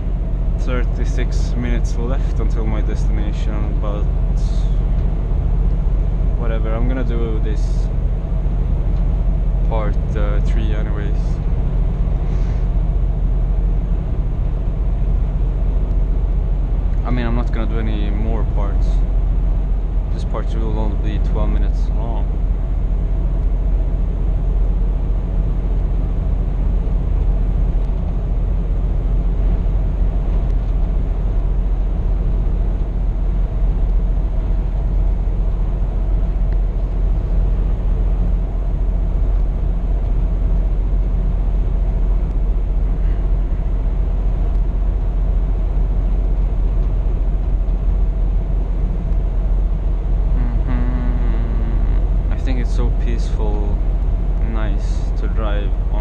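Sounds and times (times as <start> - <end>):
road rumble: 0.0 - 56.0
truck diesel engine droning: 0.0 - 56.0.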